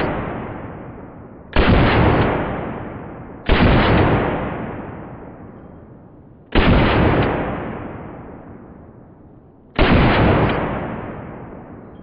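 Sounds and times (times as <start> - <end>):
pistol gunshots with echo: 0.0 - 5.6, 6.5 - 8.9, 9.8 - 12.0.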